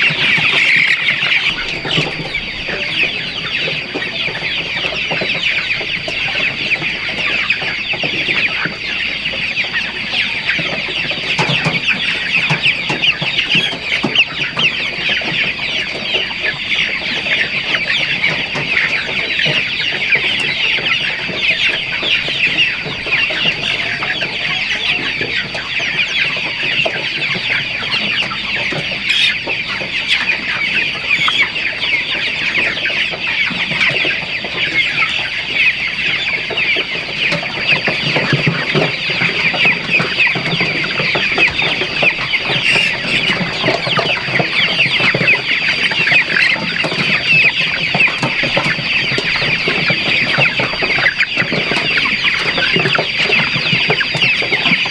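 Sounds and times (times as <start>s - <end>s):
chickens calling: 0.0s - 54.9s.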